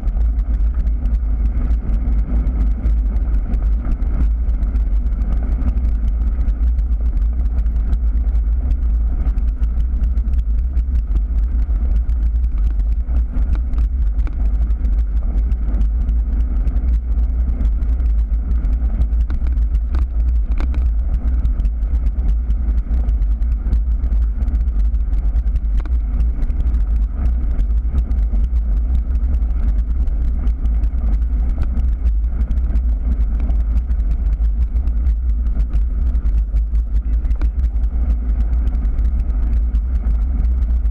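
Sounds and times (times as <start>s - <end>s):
gravel crunching ticks: 0.0s - 40.9s
gravel tyre vibration: 0.0s - 40.9s.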